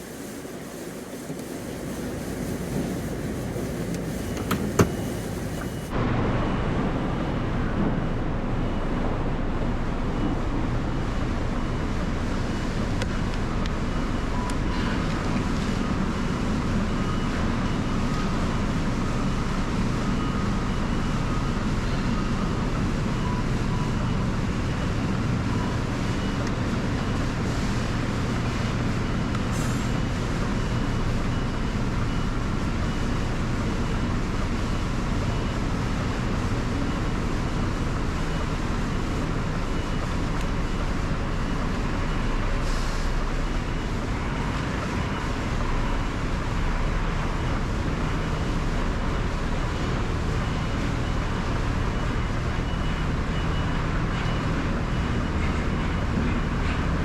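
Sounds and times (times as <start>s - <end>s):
diesel lorry engine rumbling: 1.4s - 57.0s.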